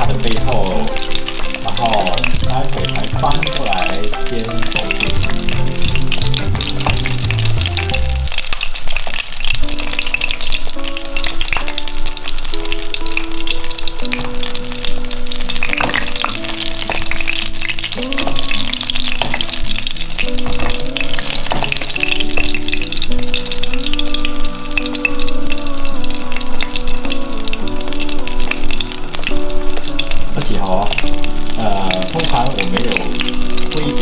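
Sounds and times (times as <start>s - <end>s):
background music: 0.0s - 34.0s
fish sizzling in hot oil: 0.0s - 34.0s.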